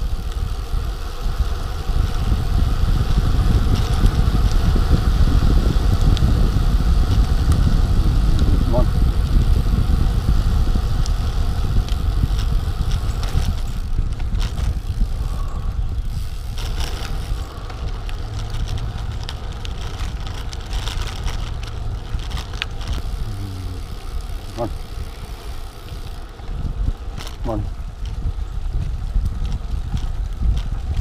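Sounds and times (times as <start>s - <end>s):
bike tyres on pavement: 0.0s - 31.0s
wind buffeting microphone: 0.0s - 31.0s.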